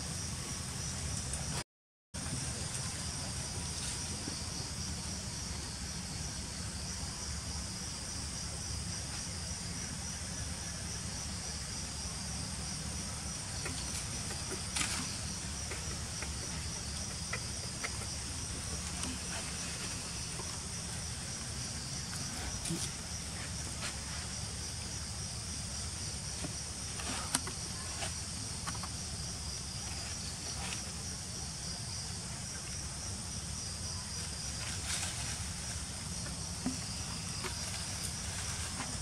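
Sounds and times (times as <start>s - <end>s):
insects chirring: 2.2s - 39.0s.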